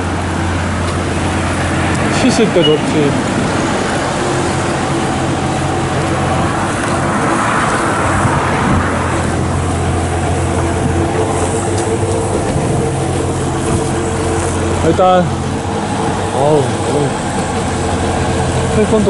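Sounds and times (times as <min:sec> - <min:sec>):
traffic engine hum: 0:00.0 - 0:19.0
vehicle passing: 0:00.0 - 0:19.0.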